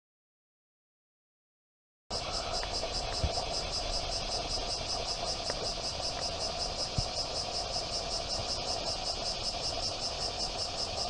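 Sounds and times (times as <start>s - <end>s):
insects chirring: 2.1s - 11.0s.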